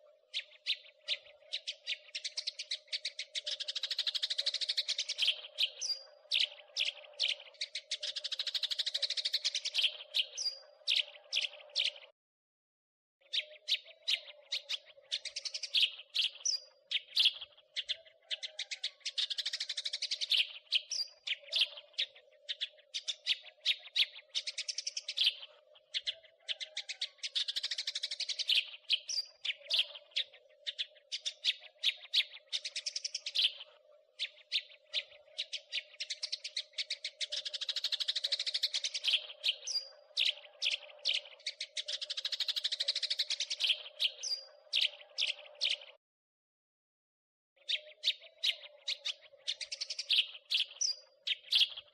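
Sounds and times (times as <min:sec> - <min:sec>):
sparrows chirping: 0:00.0 - 0:12.1, 0:13.2 - 0:46.0, 0:47.6 - 0:51.9.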